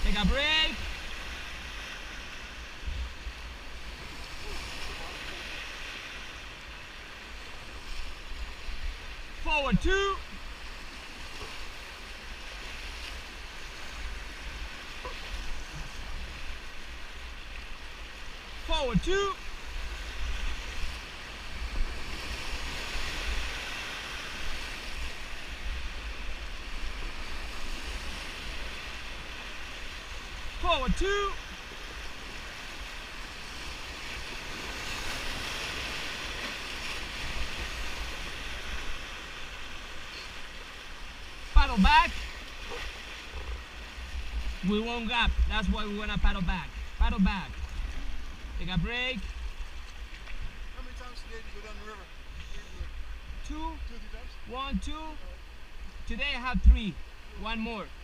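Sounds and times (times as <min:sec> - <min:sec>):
whitewater rushing in river rapid: 0:00.0 - 0:49.5.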